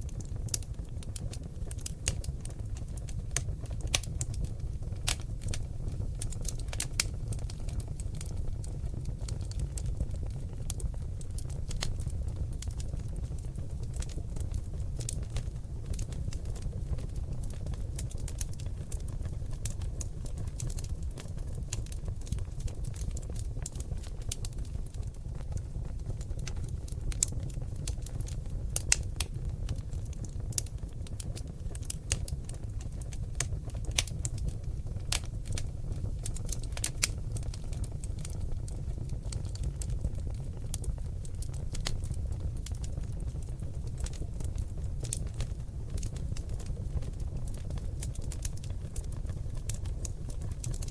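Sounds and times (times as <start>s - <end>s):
log fire crackling and popping: 0.0s - 50.9s.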